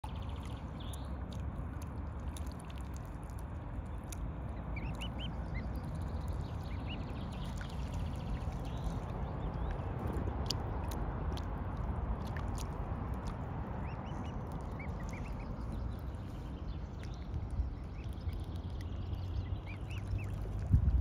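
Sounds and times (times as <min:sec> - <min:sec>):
cygnets peeping: 0:00.0 - 0:21.0.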